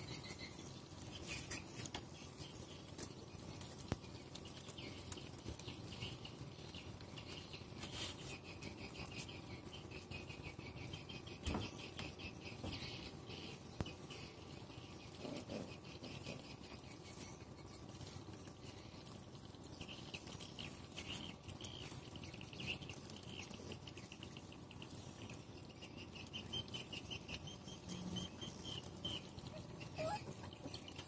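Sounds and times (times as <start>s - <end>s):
puppies chewing and lapping: 0.0s - 10.4s, 11.1s - 31.0s.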